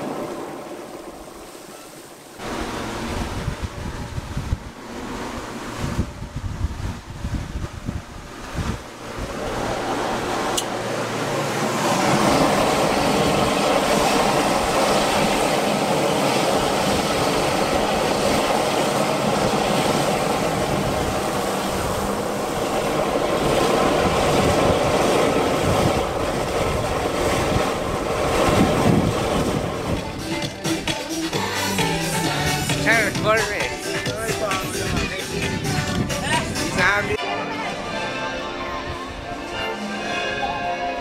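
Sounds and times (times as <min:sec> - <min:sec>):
geyser water jetting and spraying: 0:00.0 - 0:37.2.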